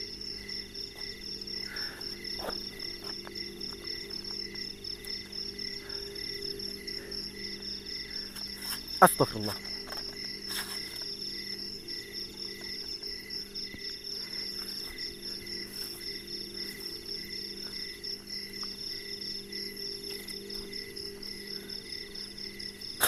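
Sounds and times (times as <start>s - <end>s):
insects chirping: 0.0s - 23.0s
low steady hum: 0.0s - 23.0s.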